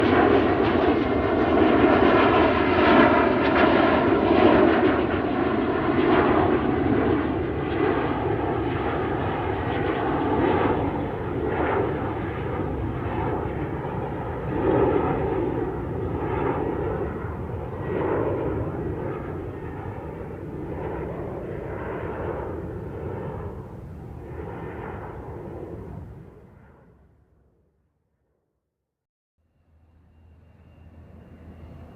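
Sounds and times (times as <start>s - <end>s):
airliner cabin engine rush: 0.0s - 26.6s, 29.6s - 31.9s.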